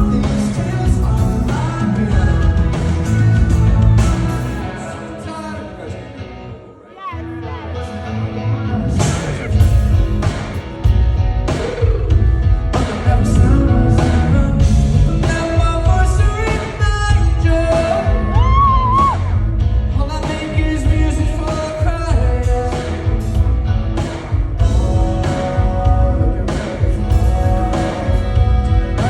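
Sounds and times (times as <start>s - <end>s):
person singing: 0.0s - 10.5s, 11.5s - 29.0s
live pop-rock band: 0.0s - 29.0s.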